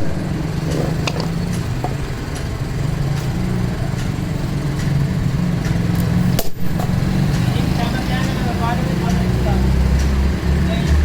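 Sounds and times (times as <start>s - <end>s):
machinery droning hum: 0.0s - 11.0s.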